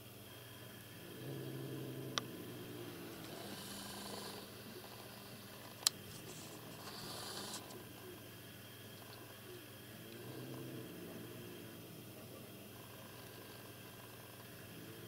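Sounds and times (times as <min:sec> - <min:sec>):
cat growling: 0:00.9 - 0:08.1, 0:09.8 - 0:15.0.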